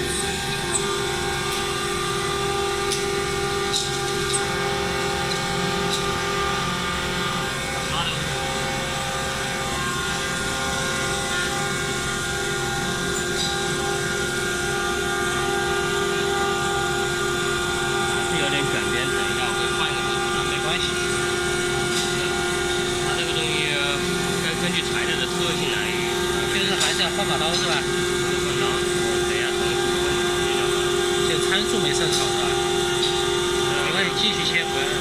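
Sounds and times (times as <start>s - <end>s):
router spindle whining: 0.0s - 35.0s.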